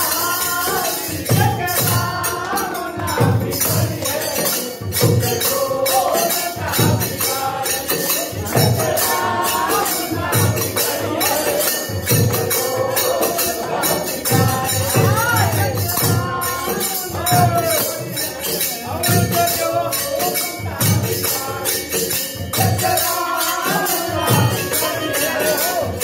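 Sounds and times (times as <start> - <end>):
jingling hand percussion: 0.0 - 26.0
men singing devotional song: 0.0 - 26.0
steady drum beat: 0.0 - 26.0.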